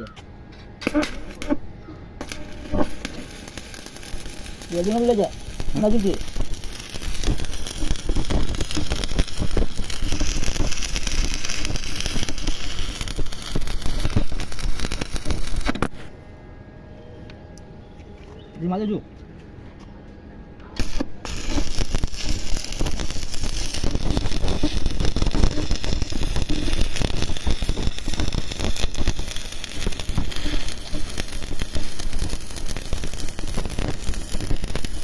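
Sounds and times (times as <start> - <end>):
arc welding crackle and sizzle: 0.0 - 16.1, 20.8 - 35.0.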